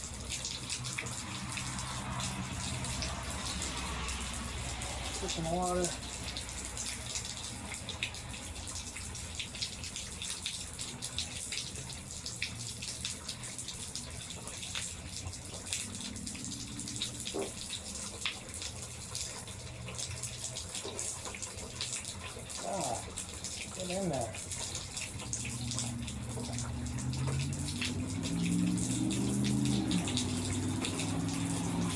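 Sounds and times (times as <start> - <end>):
rain: 0.0 - 31.9
water dripping off a gutter: 0.0 - 31.9.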